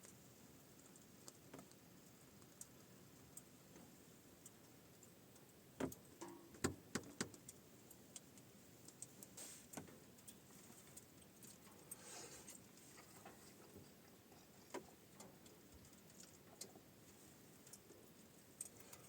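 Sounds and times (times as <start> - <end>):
small clicks and knocks: 0.8 - 16.9.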